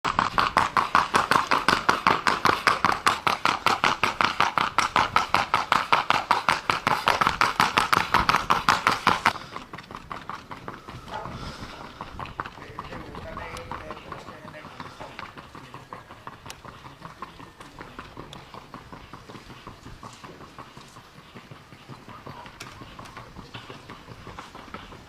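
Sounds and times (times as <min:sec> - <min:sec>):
horse hoofbeats: 0:00.0 - 0:25.0.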